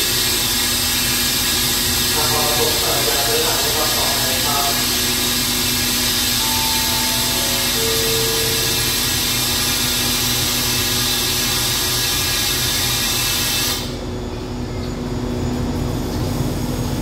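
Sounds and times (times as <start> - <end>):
compressed air hissing: 0.0 - 14.1
idling train hum: 0.0 - 17.0.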